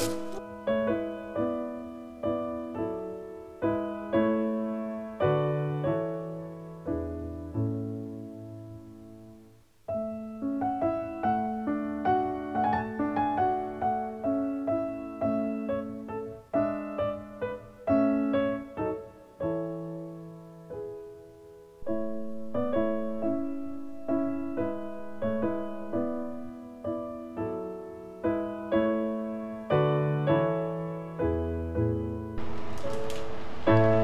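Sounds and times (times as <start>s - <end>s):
piano music: 0.0s - 9.2s, 9.9s - 34.0s.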